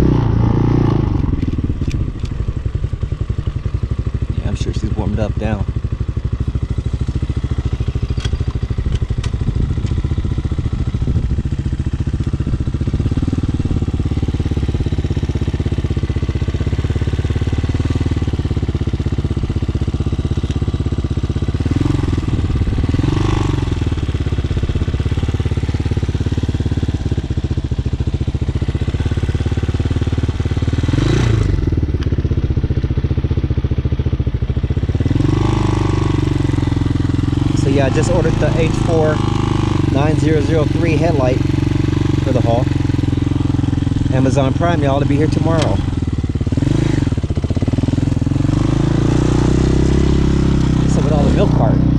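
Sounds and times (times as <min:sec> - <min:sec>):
dirt bike engine running: 0:00.0 - 0:51.9.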